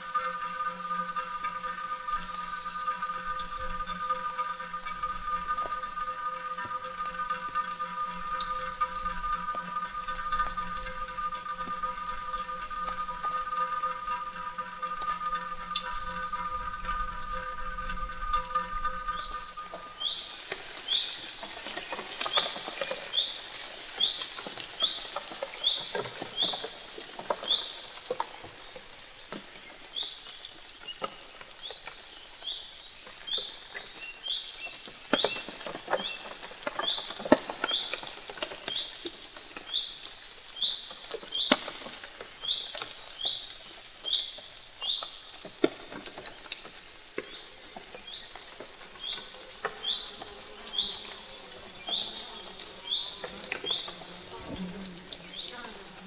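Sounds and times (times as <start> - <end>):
clicks and crackles: 2.1 - 55.6.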